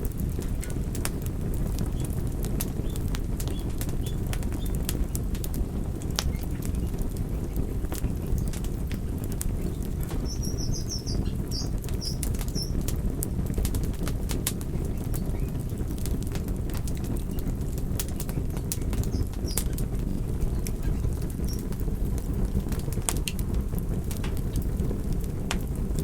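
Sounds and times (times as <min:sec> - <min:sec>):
campfire flames fluttering: 0:00.0 - 0:26.0
fire crackles and pops: 0:00.0 - 0:26.0.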